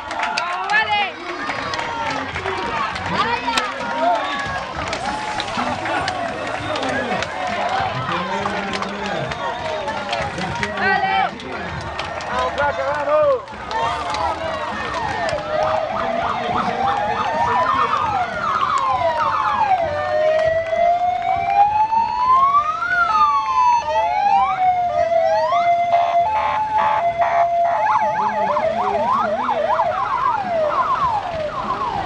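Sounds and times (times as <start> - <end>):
sirens wailing: 0.0 - 32.0.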